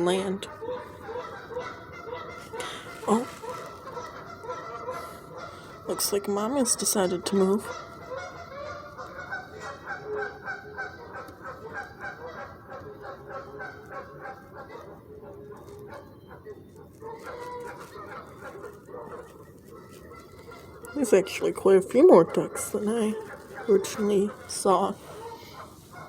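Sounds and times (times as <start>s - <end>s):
geese honking: 0.0s - 26.0s.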